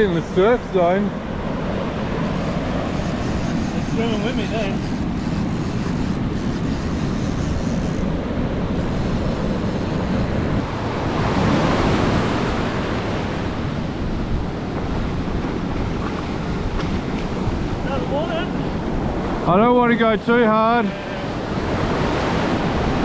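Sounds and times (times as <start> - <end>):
wind buffeting microphone: 0.0 - 20.3, 21.1 - 23.0
surf breaking on beach: 0.0 - 23.0.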